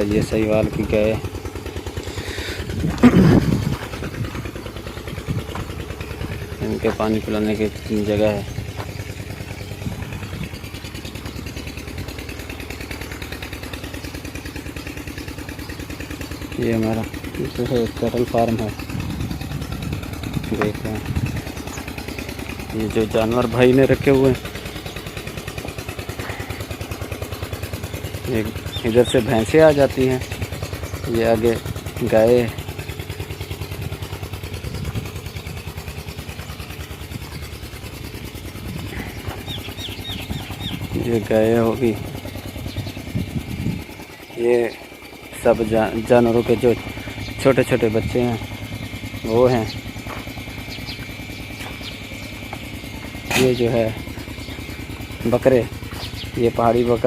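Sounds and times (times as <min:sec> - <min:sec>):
engine chugging: 0:00.0 - 0:57.0.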